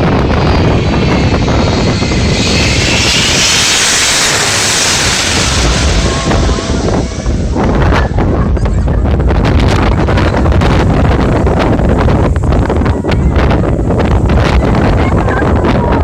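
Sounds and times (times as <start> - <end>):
jet airliner passing overhead: 0.0 - 16.0
wind buffeting microphone: 0.0 - 16.0.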